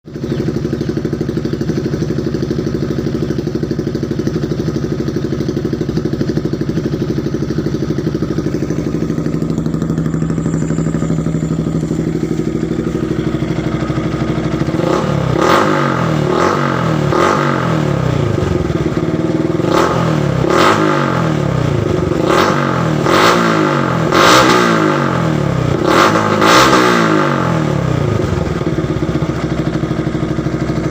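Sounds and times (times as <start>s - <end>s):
motorcycle engine idling: 0.1s - 30.9s
motorcycle engine revving: 0.1s - 30.9s.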